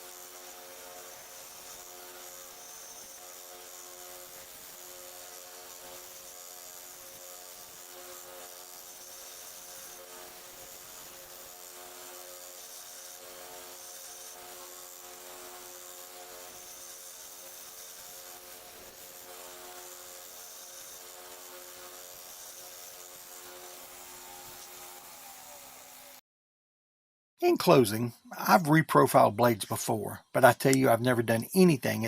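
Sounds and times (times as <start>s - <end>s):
belt sander running: 0.0s - 26.2s.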